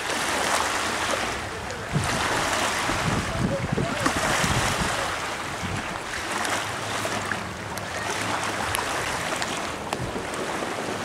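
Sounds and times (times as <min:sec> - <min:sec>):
wind and water rushing: 0:00.0 - 0:11.0
wind buffeting microphone: 0:00.0 - 0:11.0.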